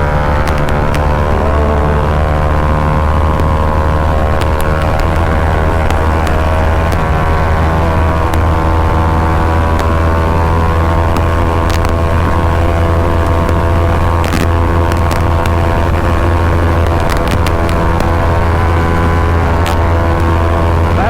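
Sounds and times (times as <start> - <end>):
motorcycle engine at high rpm: 0.0 - 21.0.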